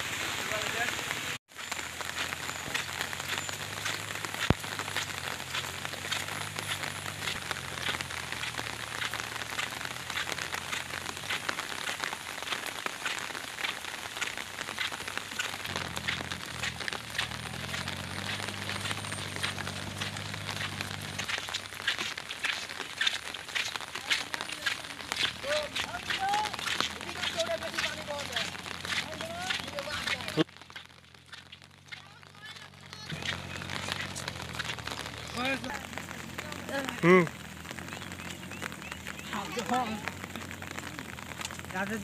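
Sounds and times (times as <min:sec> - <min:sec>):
rain pattering: 0:00.0 - 0:42.0.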